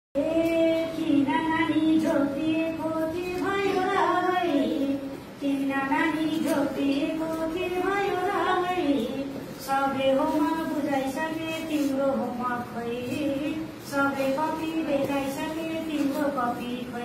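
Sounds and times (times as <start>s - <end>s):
woman singing folk verses: 0.2s - 17.0s.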